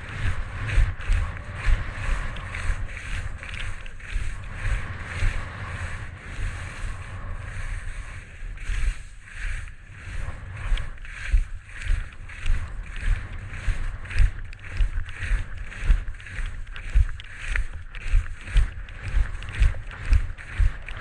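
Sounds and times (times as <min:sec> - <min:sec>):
skis scraping on snow: 0:00.0 - 0:21.0
wind rumbling on microphone: 0:00.0 - 0:21.0.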